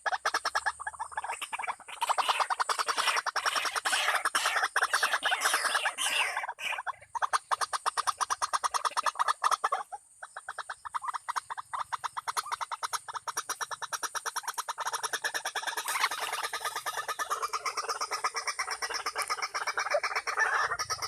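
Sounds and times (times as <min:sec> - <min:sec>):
bird harsh repeated calls: 0:00.0 - 0:21.0.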